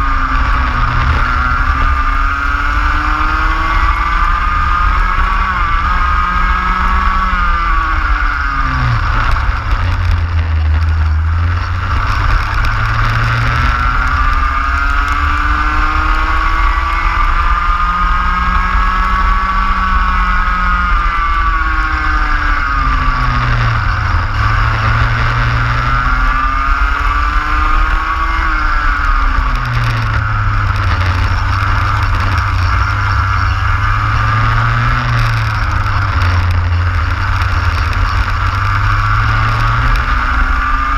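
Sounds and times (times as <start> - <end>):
racing kart engine revving: 0.0 - 40.9.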